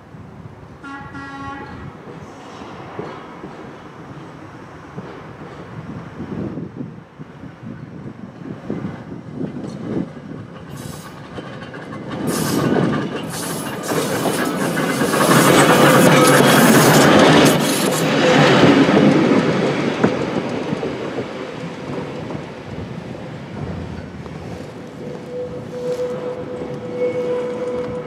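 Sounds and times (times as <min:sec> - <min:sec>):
trolley car wheels on rails: 0:01.4 - 0:28.0.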